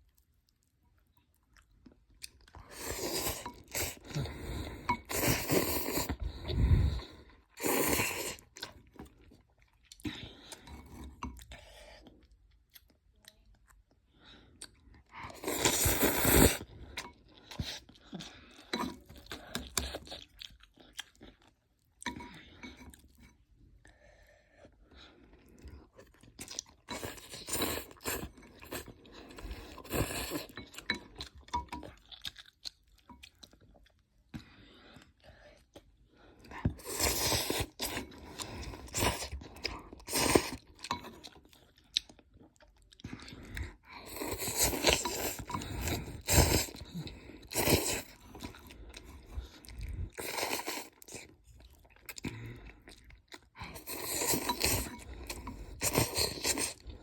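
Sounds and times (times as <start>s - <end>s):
person chewing and crunching noodles: 0.0s - 57.0s.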